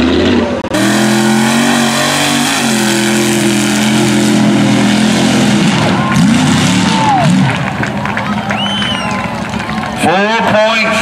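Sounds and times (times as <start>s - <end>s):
racing truck engine revving: 0.0s - 11.0s.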